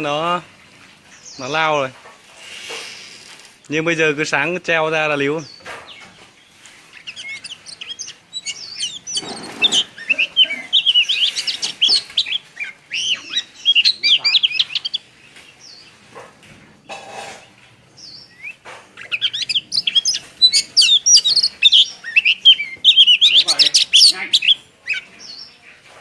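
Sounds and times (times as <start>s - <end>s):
songbird chirping and warbling: 0.0s - 26.0s.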